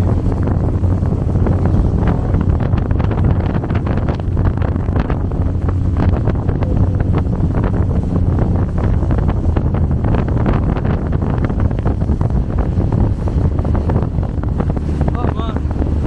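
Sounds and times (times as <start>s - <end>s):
motorboat engine drone: 0.0s - 16.0s
wind buffeting microphone: 0.0s - 16.0s.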